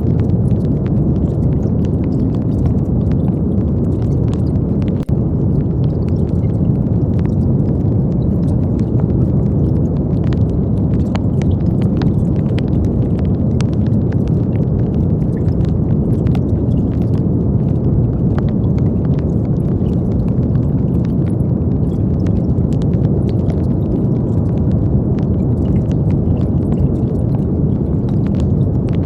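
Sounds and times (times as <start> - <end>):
deep rushing brown noise: 0.0 - 29.0.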